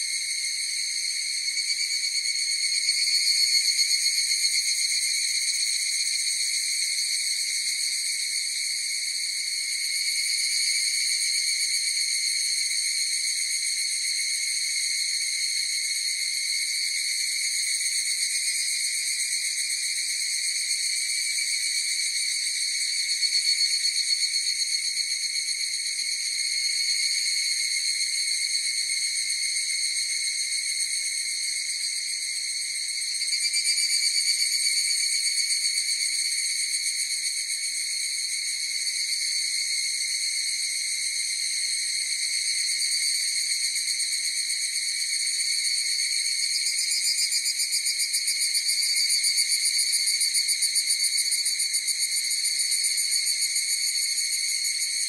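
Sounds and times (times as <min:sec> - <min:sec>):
cicadas chorus ringing drone: 0:00.0 - 0:55.0.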